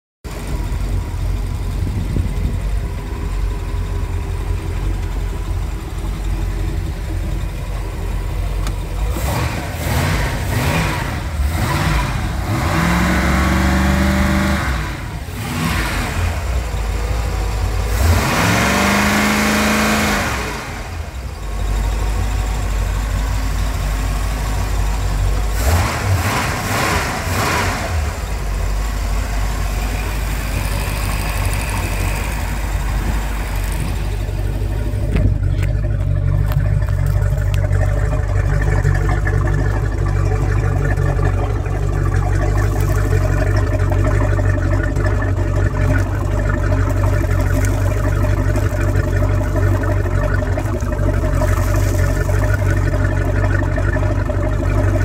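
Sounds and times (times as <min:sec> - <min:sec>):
boat engine idling and revving: 0:00.3 - 0:55.0.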